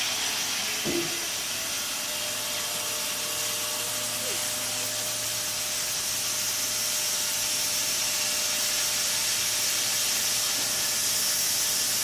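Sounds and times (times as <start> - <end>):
faint machinery hum: 0.0 - 12.0
machinery hiss: 0.0 - 12.0.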